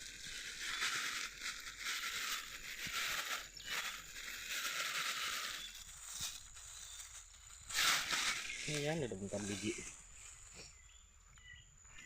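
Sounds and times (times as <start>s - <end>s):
dry rustling and crunching: 0.0s - 11.0s.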